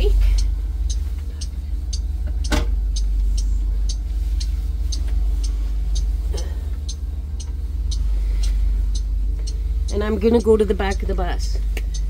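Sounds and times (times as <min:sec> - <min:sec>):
bus engine idling: 0:00.0 - 0:12.0
flasher ticking: 0:00.0 - 0:12.0.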